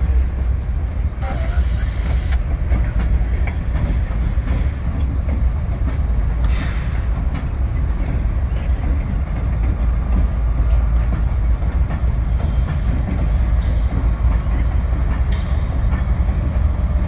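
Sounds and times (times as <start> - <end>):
wheels clicking on rails: 1.3 - 17.0.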